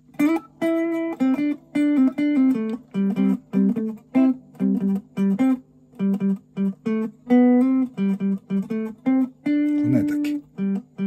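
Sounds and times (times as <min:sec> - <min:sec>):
electric guitar single-note melody: 0:00.0 - 0:11.0.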